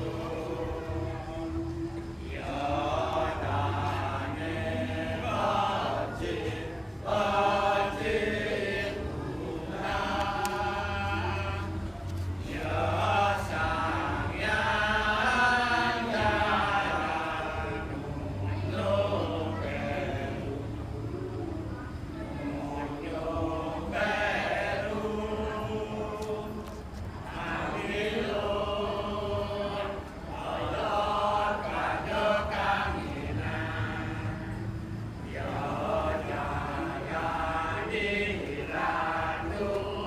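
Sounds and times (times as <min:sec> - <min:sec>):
steady low drone: 0:00.0 - 0:40.0
voices chanting: 0:00.0 - 0:40.0.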